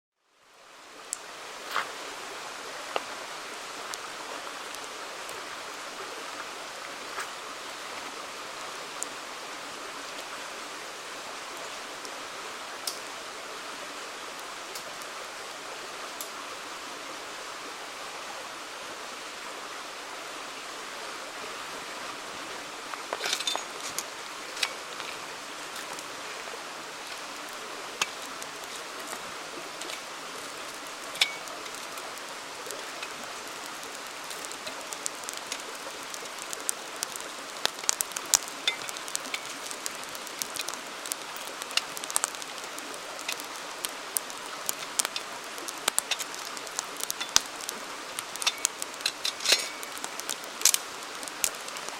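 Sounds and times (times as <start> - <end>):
campfire crackling: 0.4 - 17.8, 19.1 - 51.9
river rushing: 0.8 - 51.9.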